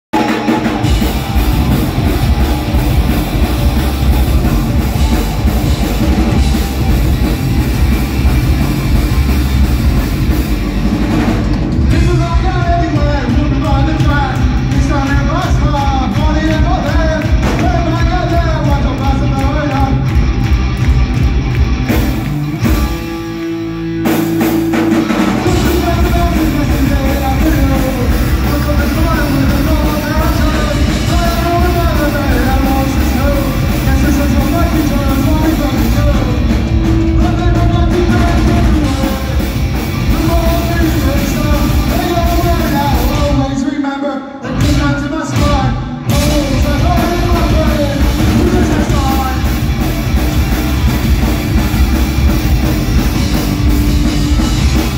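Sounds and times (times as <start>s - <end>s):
live rock band playing: 0.1s - 43.7s, 44.4s - 54.9s.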